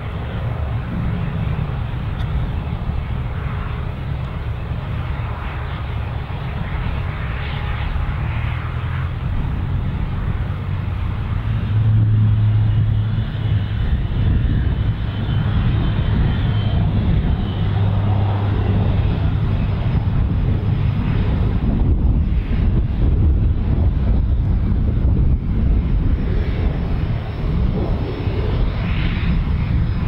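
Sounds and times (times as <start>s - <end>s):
aircraft engine rumble: 0.0s - 30.0s.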